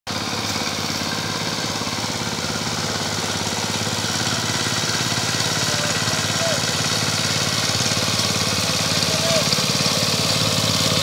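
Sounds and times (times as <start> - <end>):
hand tractor engine running: 0.1 - 11.0.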